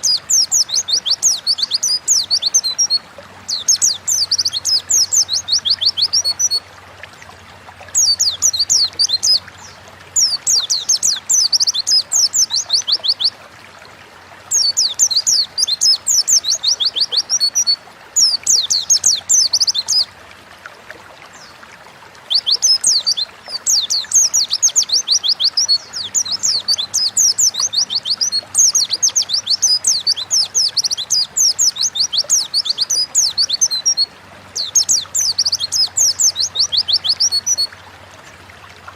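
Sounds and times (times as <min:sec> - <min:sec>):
small bird singing rapid phrases: 0:00.0 - 0:06.6, 0:07.9 - 0:13.4, 0:14.5 - 0:20.1, 0:22.3 - 0:37.7.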